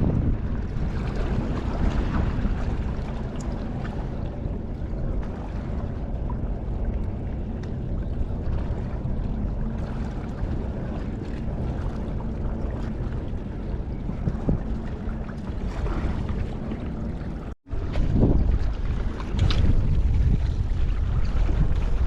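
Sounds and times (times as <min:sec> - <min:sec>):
steady low hum: 0:00.0 - 0:22.0
wind buffeting microphone: 0:00.0 - 0:22.0.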